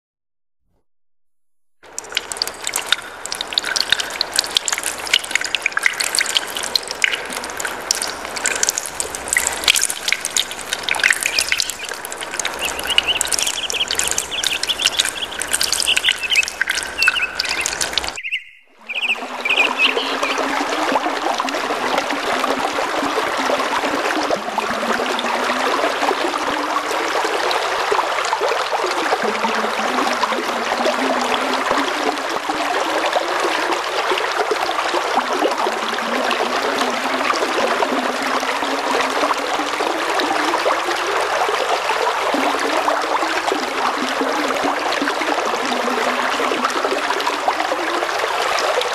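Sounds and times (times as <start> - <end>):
running water splashing: 1.8 - 48.9.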